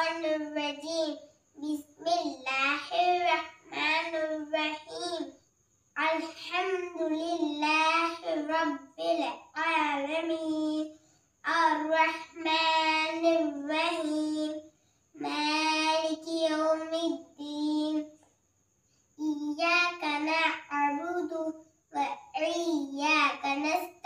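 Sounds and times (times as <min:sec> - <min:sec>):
girl chanting melodically: 0:00.0 - 0:18.2, 0:19.2 - 0:24.0.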